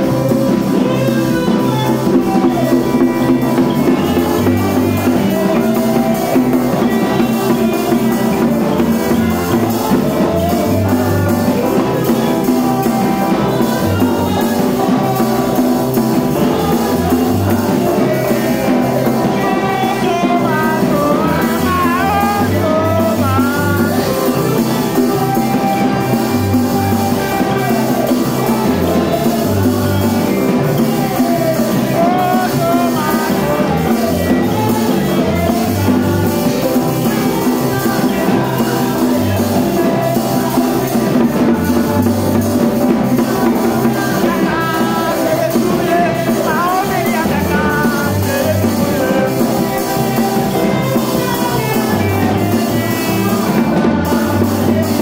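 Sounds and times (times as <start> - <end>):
person singing: 0.0 - 55.0
upbeat dance music with drums: 0.0 - 55.0.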